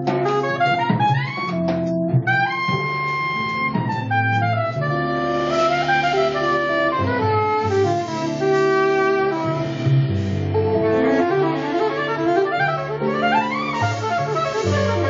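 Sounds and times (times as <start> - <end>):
double bass line: 0.0 - 15.0
drum kit: 0.0 - 15.0
saxophone melody: 0.0 - 15.0.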